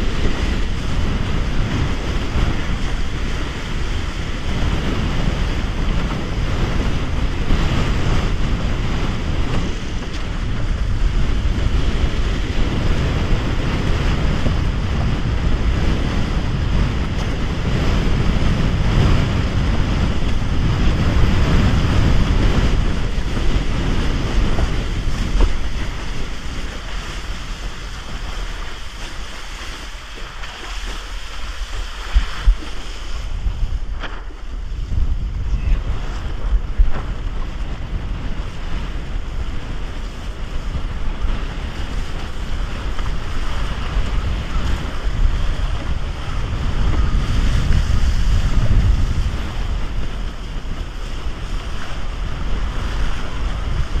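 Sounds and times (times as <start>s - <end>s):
water rushing and splashing: 0.0s - 54.0s
wind blasting microphone: 0.0s - 54.0s.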